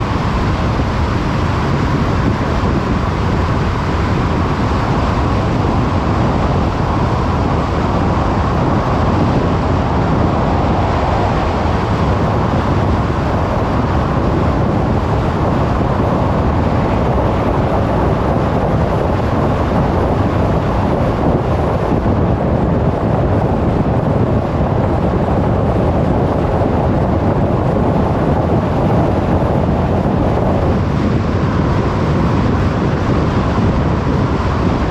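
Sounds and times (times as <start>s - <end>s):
road and tyre noise: 0.0s - 34.9s
wind: 0.0s - 34.9s.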